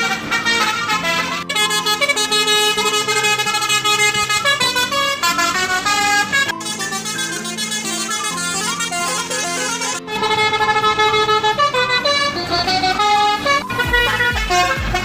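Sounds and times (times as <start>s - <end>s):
multi-tone bus horn playing a tune: 0.0s - 15.0s.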